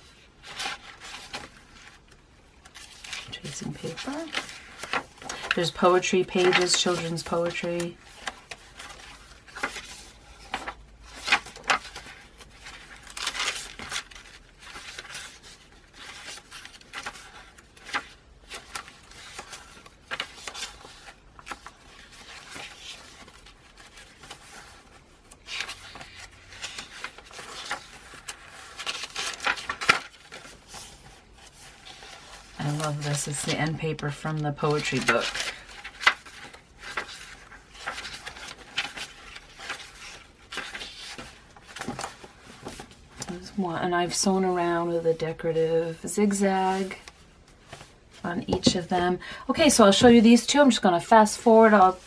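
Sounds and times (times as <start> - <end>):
paper pages turning and rustling: 0.1 - 45.1, 46.3 - 48.9.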